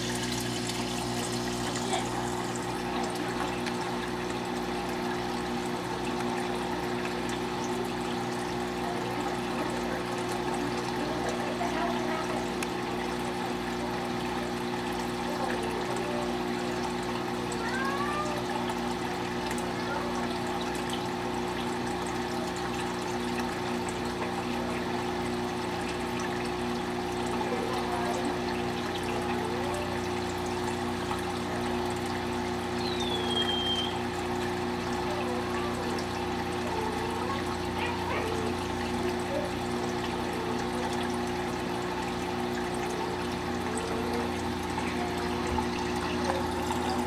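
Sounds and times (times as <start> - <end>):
aquarium equipment hum: 0.0 - 47.0
water trickling: 0.0 - 47.0.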